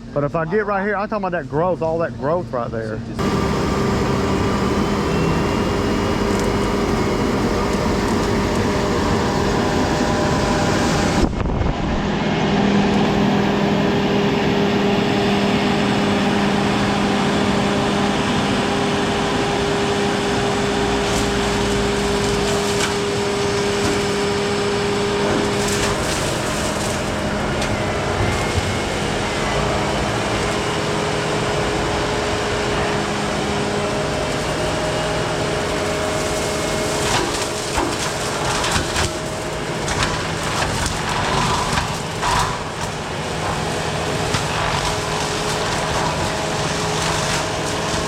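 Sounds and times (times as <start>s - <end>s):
track loader diesel engine: 1.6s - 48.0s.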